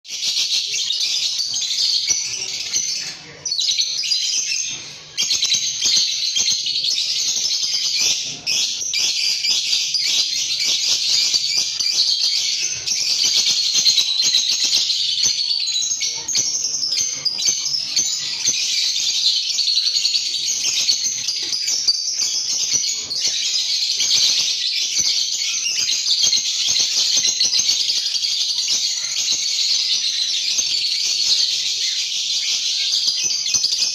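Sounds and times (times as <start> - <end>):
lovebirds chirping: 0.1 - 33.9.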